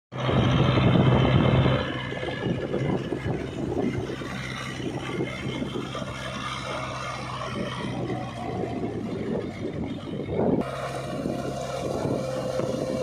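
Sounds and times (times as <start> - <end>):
tractor diesel engine running: 0.1 - 13.0.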